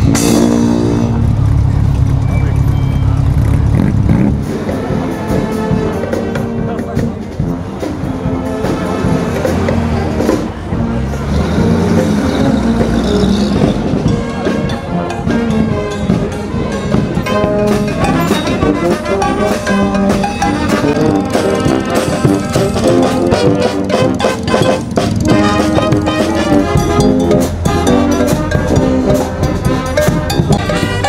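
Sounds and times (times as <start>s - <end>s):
brass band music: 0.0s - 31.0s.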